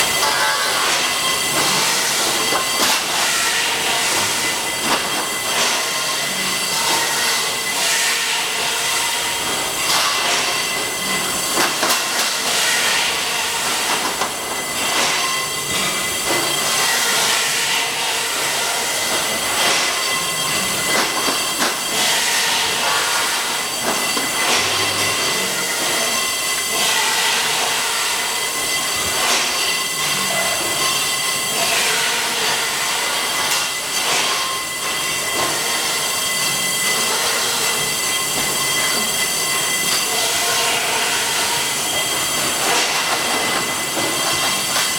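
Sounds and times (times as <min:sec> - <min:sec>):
circular saw whining and screeching: 0:00.0 - 0:44.9
metallic clanks of pipes: 0:00.0 - 0:44.9.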